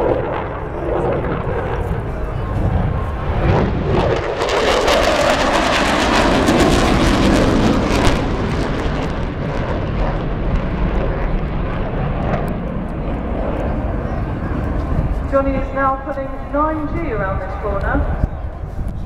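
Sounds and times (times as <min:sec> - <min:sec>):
jet engines roaring overhead: 0:00.0 - 0:19.0.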